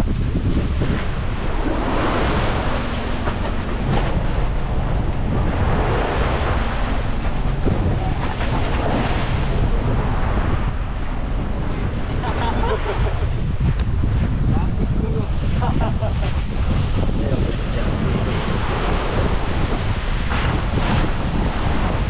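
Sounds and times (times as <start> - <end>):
low motor hum: 0.0 - 22.0
rushing wind: 0.0 - 22.0
sea wash: 0.0 - 22.0.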